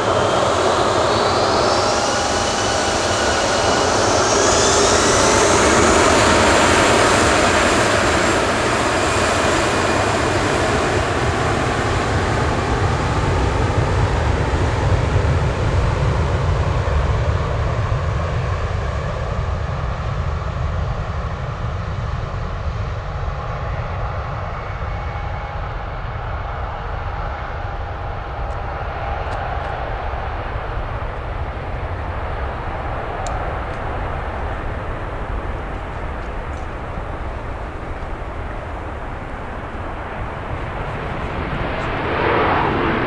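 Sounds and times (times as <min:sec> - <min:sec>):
jet engines roaring at takeoff: 0:00.0 - 0:43.0.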